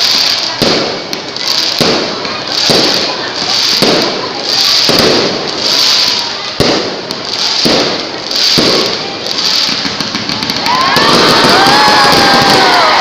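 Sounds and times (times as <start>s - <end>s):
fireworks bursting with crackling: 0.0s - 13.0s.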